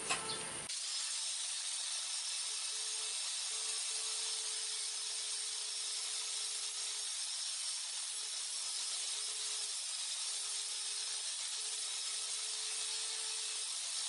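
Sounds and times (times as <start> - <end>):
belt sander grinding steel: 0.0 - 14.0.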